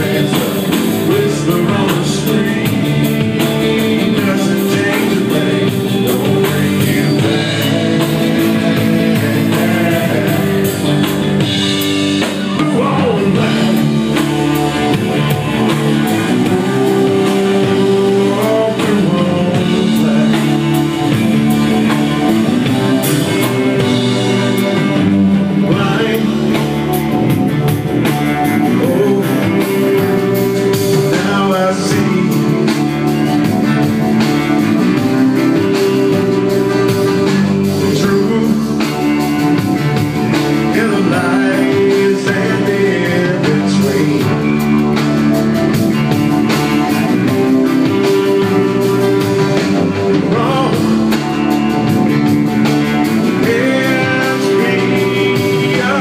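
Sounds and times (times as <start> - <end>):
man singing lead vocal: 0.0 - 27.1, 28.4 - 45.2, 46.9 - 51.8, 52.7 - 56.0
blues-rock band playing: 0.0 - 56.0.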